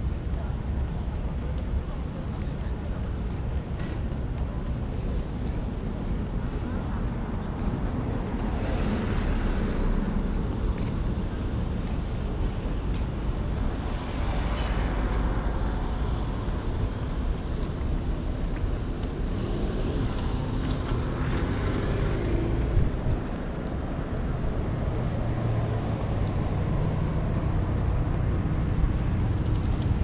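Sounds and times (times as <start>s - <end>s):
street traffic rumble: 0.0s - 30.0s.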